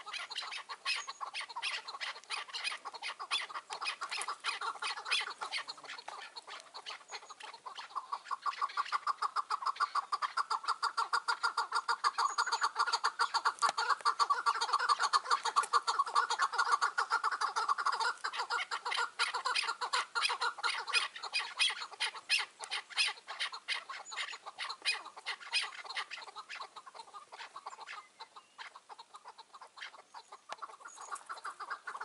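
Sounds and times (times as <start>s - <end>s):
partridge clucking calls: 0.0s - 32.0s.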